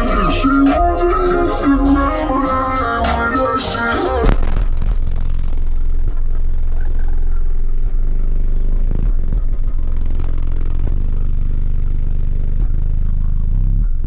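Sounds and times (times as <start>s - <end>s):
deep bass of rap track: 0.0s - 14.0s.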